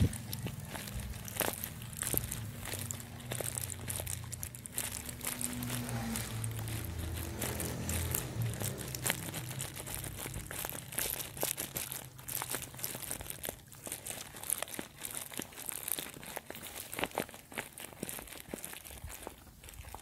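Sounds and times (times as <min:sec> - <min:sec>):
animals chewing dry hay: 0:00.0 - 0:20.0.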